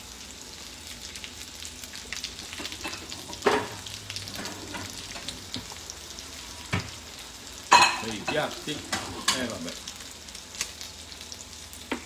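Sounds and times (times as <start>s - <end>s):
fish sizzling in a pan: 0.0s - 12.0s.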